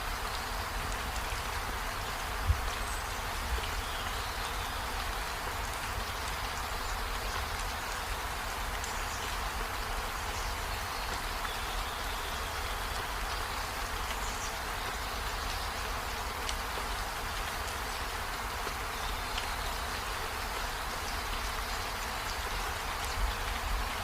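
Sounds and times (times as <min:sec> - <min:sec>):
steady rain on trees and window: 0:00.0 - 0:24.0.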